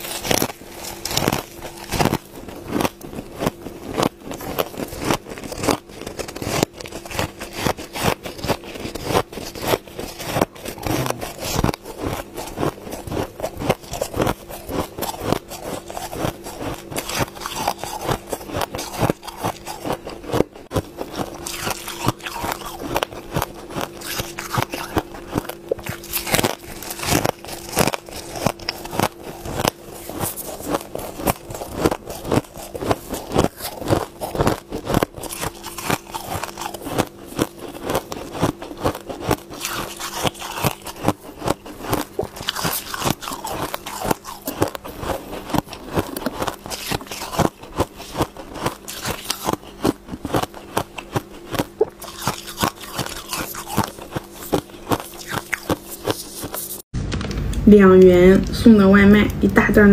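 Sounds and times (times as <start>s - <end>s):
ice crunching between teeth: 0.0s - 56.8s
faint steady hum: 0.0s - 59.9s.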